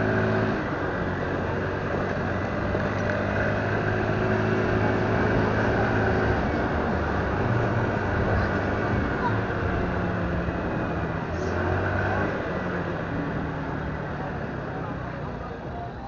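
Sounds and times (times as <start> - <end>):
motorbike engine running: 0.0 - 16.0
wind and road noise: 0.0 - 16.0.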